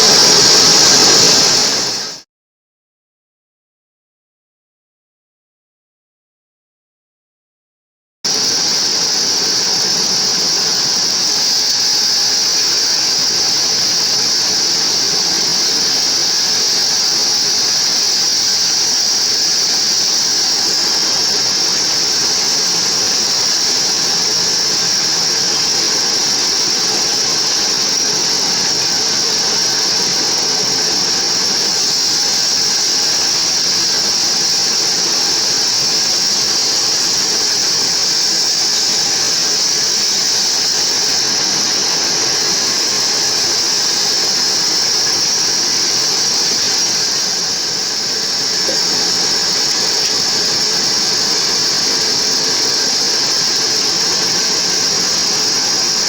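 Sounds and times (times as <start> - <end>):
band saw high-pitched whine: 0.0 - 2.2, 8.3 - 56.0
sawmill machine running: 0.0 - 2.2, 8.3 - 56.0.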